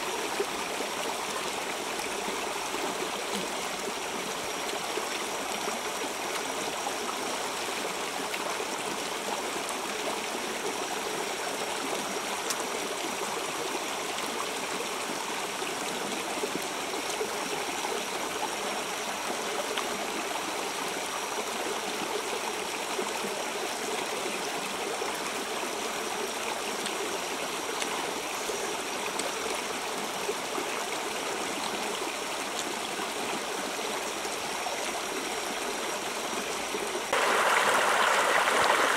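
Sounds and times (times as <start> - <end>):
river flowing over rocks: 0.0 - 23.9, 24.6 - 38.9.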